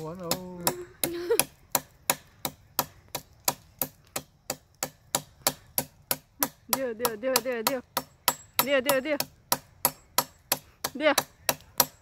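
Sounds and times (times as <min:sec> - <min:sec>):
blade chopping wood: 0:00.0 - 0:12.0.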